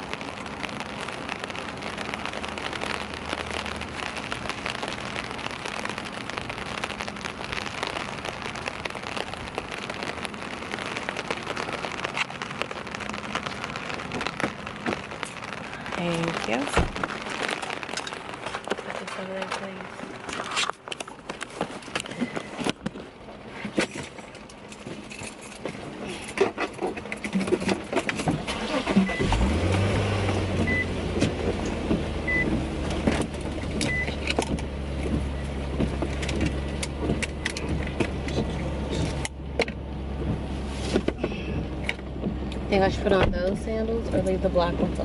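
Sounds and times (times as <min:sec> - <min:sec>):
car engine starting and idling: 0:00.0 - 0:45.0.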